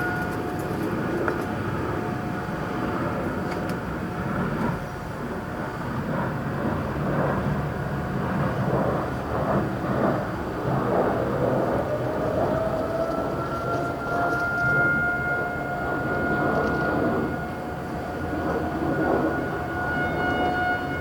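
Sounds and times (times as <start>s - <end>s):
distant warning siren: 0.0s - 21.0s.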